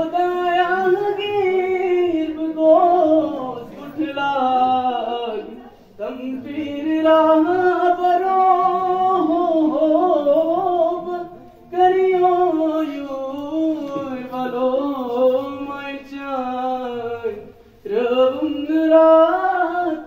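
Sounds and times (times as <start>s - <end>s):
boy singing: 0.0s - 20.0s.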